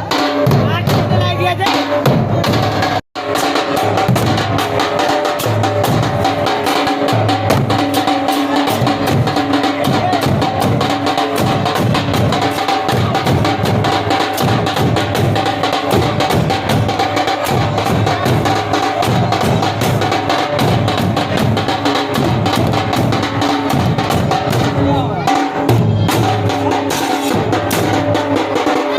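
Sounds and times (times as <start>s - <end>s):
drums beaten in fast rhythm: 0.0s - 28.9s.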